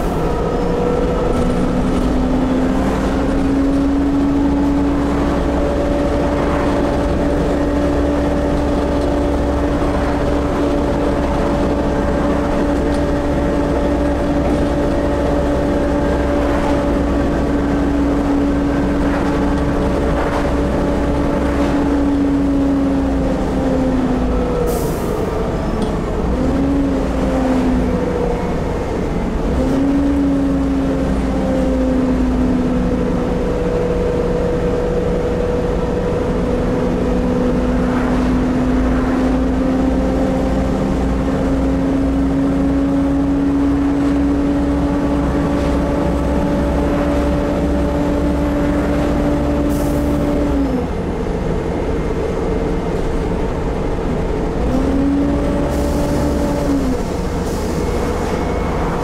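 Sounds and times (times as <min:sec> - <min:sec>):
bus engine rumble: 0:00.0 - 0:59.0
drivetrain whine: 0:00.0 - 0:59.0.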